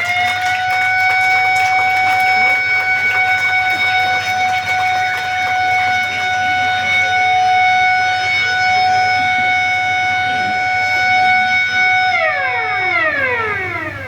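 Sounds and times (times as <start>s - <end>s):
siren steady tone: 0.0s - 14.0s.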